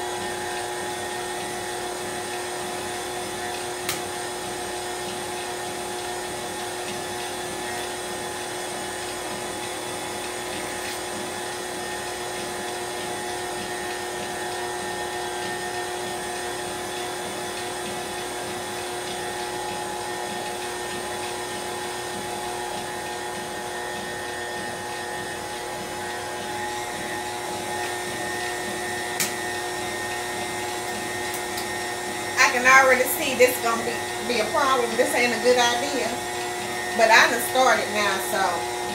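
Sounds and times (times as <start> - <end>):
stand mixer motor whine: 0.0 - 38.9.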